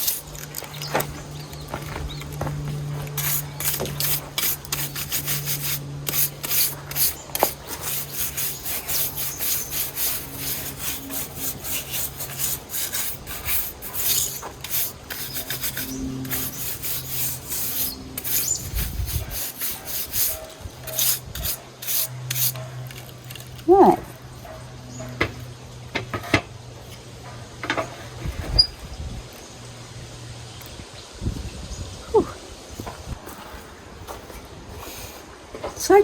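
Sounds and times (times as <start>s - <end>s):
scraping over wood: 0.0s - 28.8s
steady low hum: 0.0s - 35.5s.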